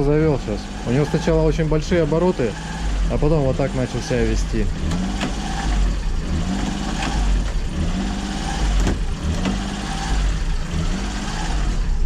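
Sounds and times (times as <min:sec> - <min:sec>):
car engine idling unevenly: 0:00.0 - 0:12.0.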